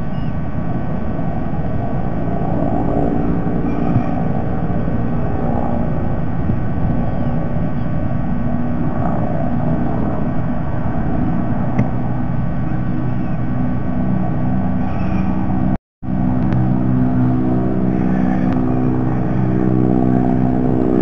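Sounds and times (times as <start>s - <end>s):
constant hum: 0.0s - 21.0s
low engine rumble: 0.0s - 21.0s.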